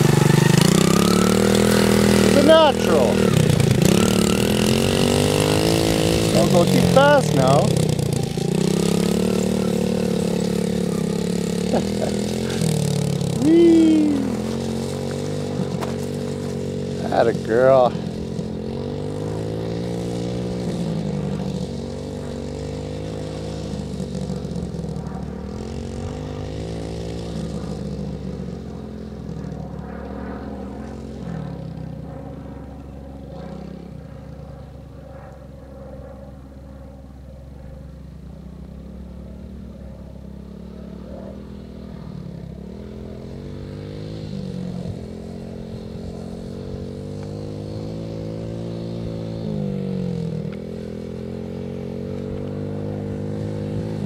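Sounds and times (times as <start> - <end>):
dirt bike engine revving: 0.0 - 34.4, 38.2 - 54.0.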